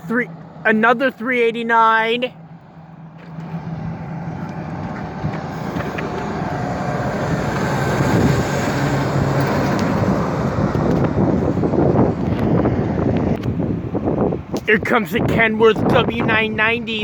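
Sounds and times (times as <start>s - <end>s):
truck driving past: 0.0s - 14.4s.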